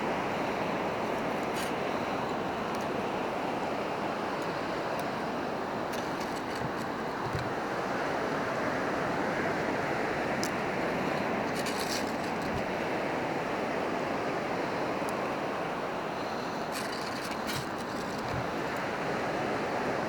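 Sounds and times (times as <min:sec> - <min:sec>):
ocean surf washing on beach: 0:00.0 - 0:20.0.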